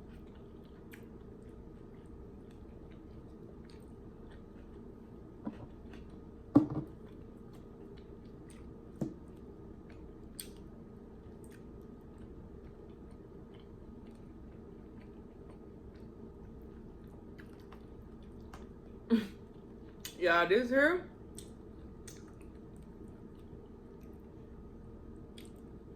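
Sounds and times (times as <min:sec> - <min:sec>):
person chewing: 0:00.0 - 0:06.4, 0:07.0 - 0:20.2, 0:21.3 - 0:24.3, 0:25.3 - 0:25.8.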